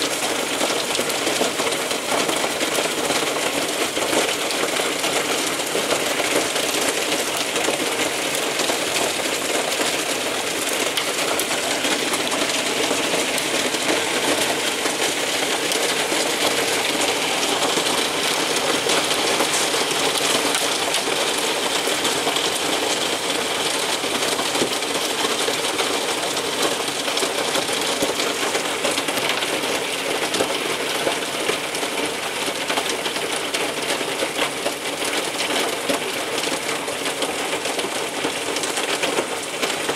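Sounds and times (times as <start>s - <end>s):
hail and rain falling: 0.0s - 39.9s.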